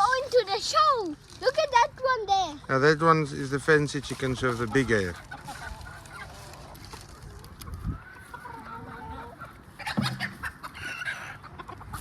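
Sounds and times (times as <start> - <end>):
chickens clucking: 1.6 - 12.0.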